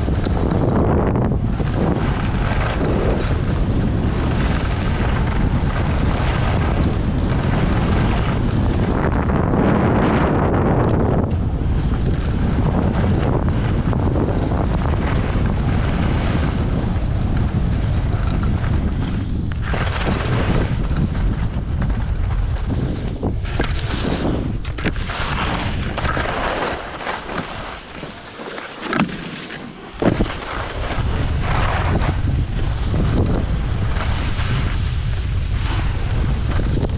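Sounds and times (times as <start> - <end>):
wind rushing over microphone: 0.0 - 28.3, 28.9 - 36.9
skis scraping on packed snow: 0.0 - 36.9.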